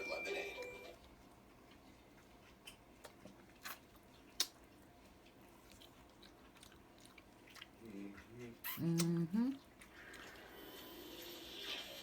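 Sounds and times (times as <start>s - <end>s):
chewing fried chicken: 0.0s - 12.0s.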